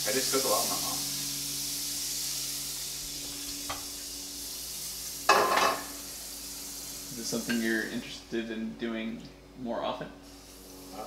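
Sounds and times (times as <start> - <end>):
food sizzling in a frying pan: 0.0 - 8.3, 10.2 - 11.0.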